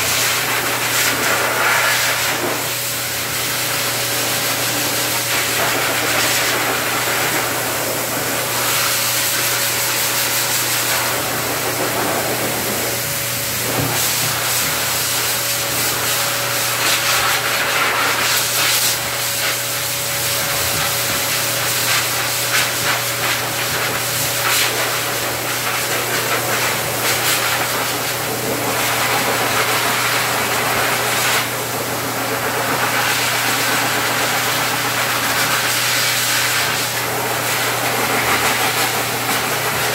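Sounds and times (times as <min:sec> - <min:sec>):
air rushing from dryer nozzle: 0:00.0 - 0:39.9
dryer motor hum: 0:00.0 - 0:39.9.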